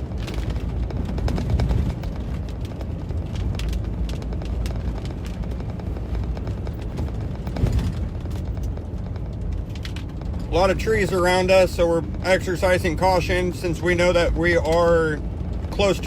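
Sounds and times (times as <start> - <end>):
heavy rain on car roof: 0.0 - 16.0
road and wind rumble in car: 0.0 - 16.0.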